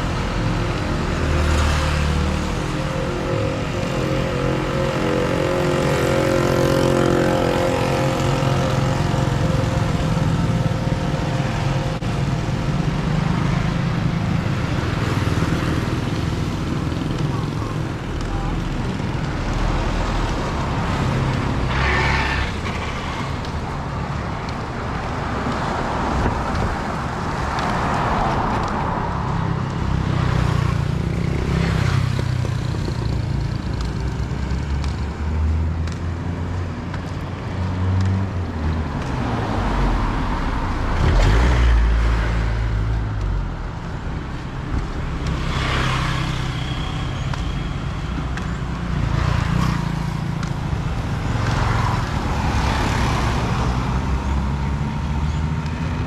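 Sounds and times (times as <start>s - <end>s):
vehicle engines running: 0.0s - 56.0s
vehicles passing: 0.0s - 56.0s.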